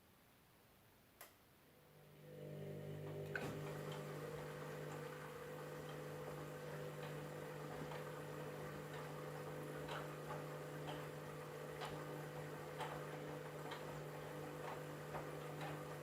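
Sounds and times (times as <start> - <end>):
washing machine motor hum: 1.8 - 16.0.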